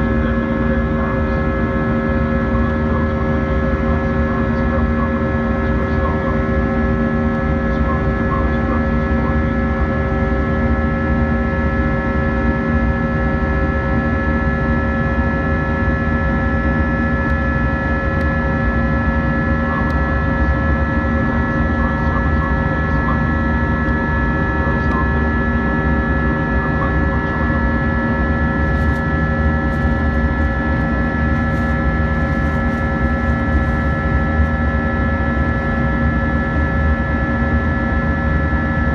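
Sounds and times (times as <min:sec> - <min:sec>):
jet engine drone in cabin: 0:00.0 - 0:38.9
steady whining tones: 0:00.0 - 0:38.9.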